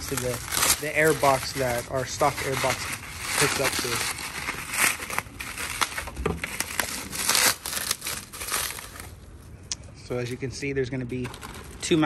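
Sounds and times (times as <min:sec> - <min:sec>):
bubble wrap crackling: 0:00.0 - 0:09.4, 0:11.1 - 0:12.0.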